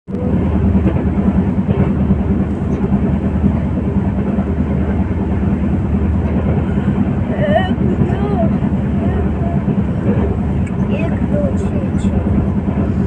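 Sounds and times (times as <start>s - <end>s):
train wheels rumbling on rails: 0.1s - 13.0s.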